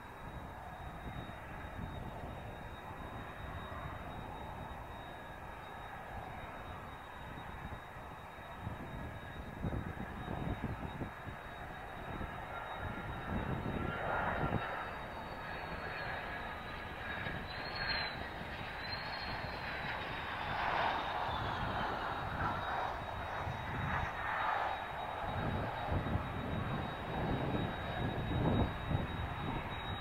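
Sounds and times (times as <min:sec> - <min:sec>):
high turbine whine: 0:00.0 - 0:30.0
jet engines rumbling and roaring: 0:00.0 - 0:30.0.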